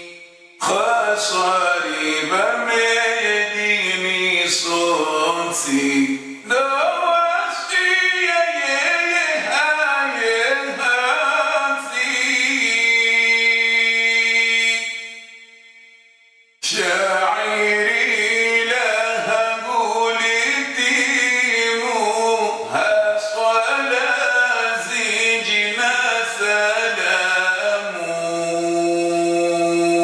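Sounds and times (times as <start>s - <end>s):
man chanting: 0.0s - 15.2s, 16.6s - 30.0s.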